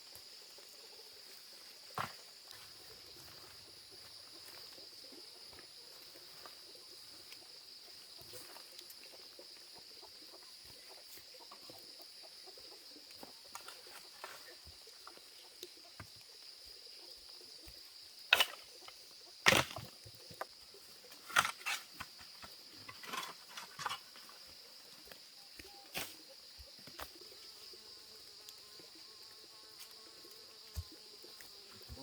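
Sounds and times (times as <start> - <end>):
high insect trill: 0.0 - 32.0.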